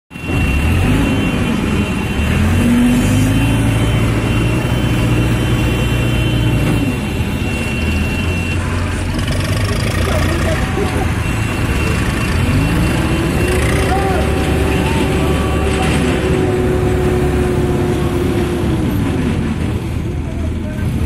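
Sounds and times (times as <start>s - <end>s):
crane diesel engine running: 0.1s - 21.0s.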